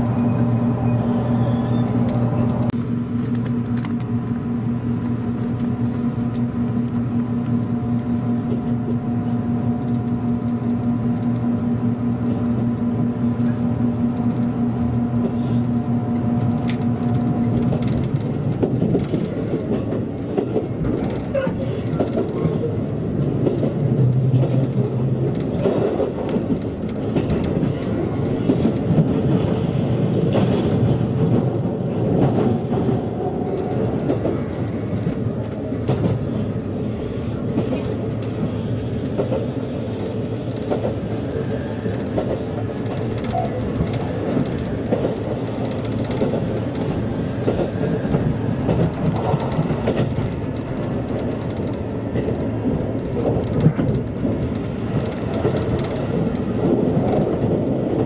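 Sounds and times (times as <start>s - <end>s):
train interior hum with tones: 0.0s - 58.0s
train wheels rumbling on track: 0.0s - 58.0s.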